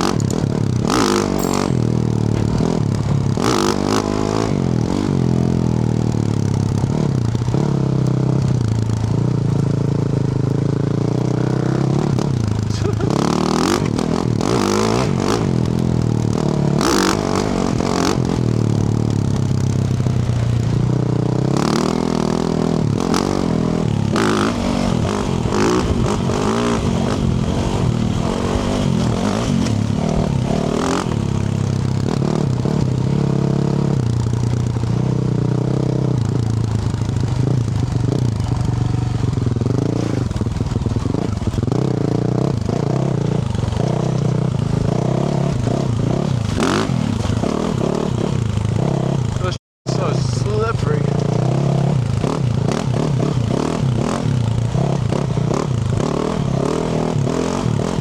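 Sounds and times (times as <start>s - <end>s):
dirt bike engine revving: 0.0s - 10.1s, 10.8s - 58.0s.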